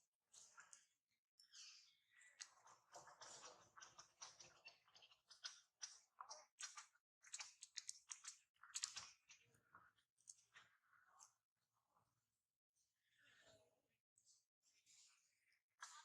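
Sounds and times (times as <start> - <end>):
faint clicks and crackles: 0.2 - 12.1, 13.2 - 16.0.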